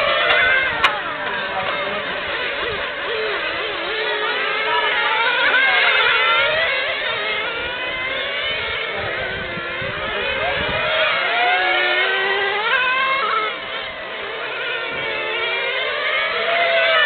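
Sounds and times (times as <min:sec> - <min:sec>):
radio-controlled car motors whining: 0:00.0 - 0:17.0.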